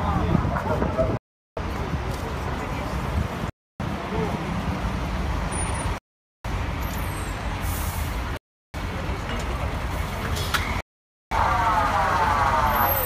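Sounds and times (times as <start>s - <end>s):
idling trucks and traffic rumble: 0.0s - 13.0s.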